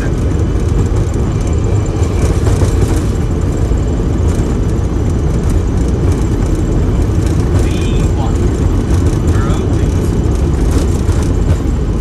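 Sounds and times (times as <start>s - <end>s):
jet engines deep rumble: 0.0s - 12.0s.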